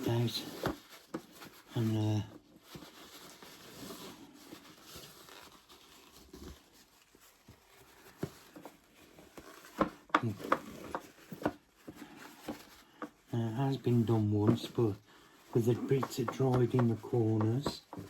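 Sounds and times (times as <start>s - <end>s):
paper tissue rubbing: 0.0s - 18.0s.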